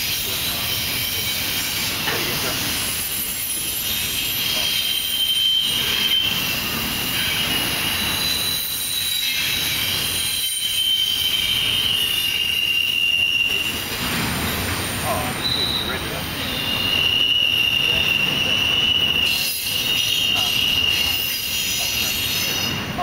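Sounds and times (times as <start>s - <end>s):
high-pitched wheel squeal: 0.0s - 23.0s.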